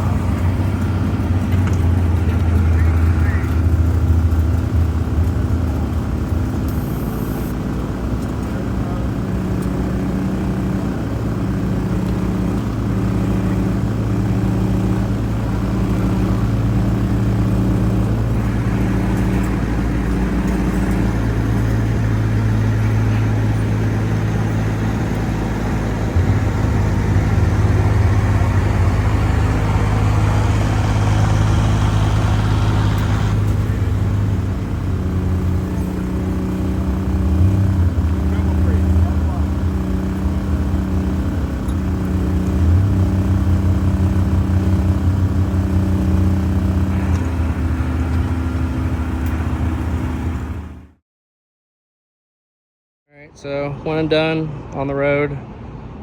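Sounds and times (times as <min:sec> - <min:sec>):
car engine driving: 0:00.0 - 0:51.0.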